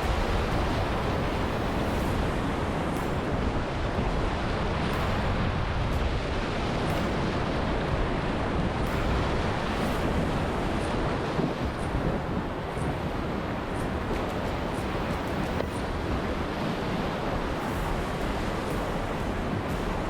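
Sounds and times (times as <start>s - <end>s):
rushing whitewater: 0.0s - 20.0s.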